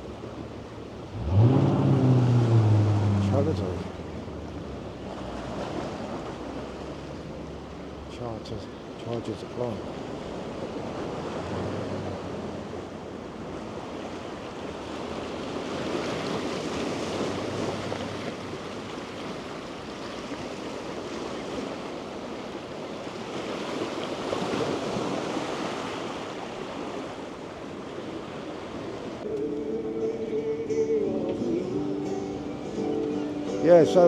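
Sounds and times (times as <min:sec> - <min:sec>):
sea waves washing ashore: 0:00.0 - 0:34.0.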